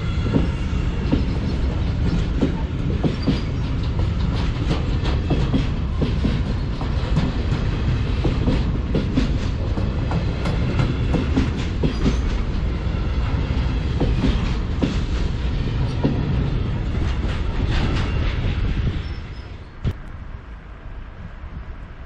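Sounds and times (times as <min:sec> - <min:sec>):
train wheels clacking over rail joints: 0:00.1 - 0:20.0.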